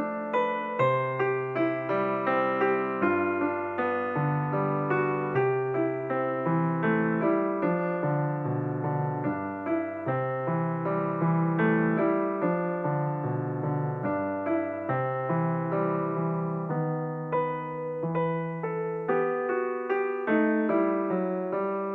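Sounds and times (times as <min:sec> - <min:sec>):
gentle piano notes: 0:00.0 - 0:21.9.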